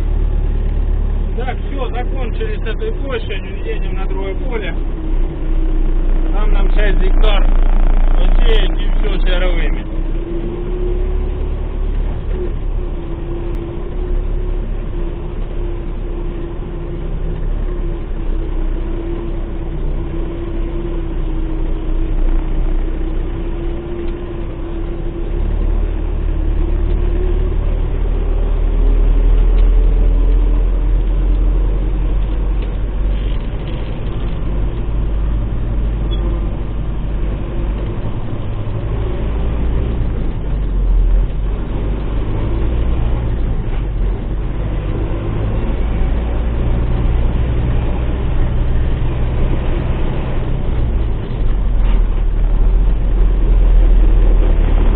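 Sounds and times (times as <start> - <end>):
tractor diesel engine rumbling: 0.0 - 54.9.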